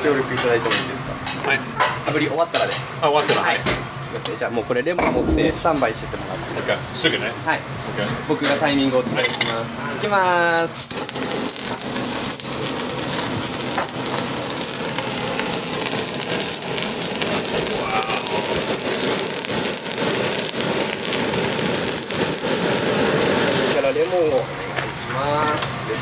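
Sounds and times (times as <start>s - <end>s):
gas torch hissing: 3.2s - 26.0s.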